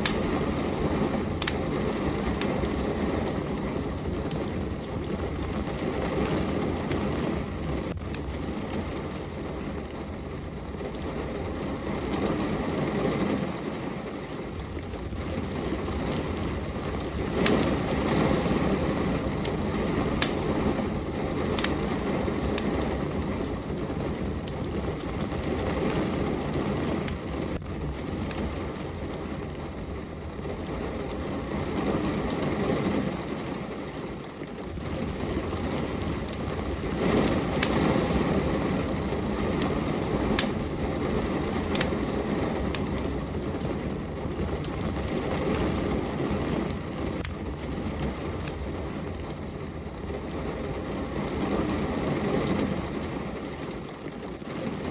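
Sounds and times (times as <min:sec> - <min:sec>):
log fire crackling: 0:00.0 - 0:54.9
steady rain: 0:00.0 - 0:54.9.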